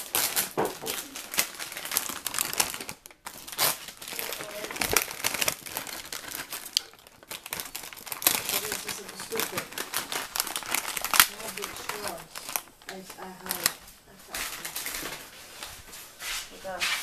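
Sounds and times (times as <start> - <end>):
plastic package crinkling: 0.0 - 15.8.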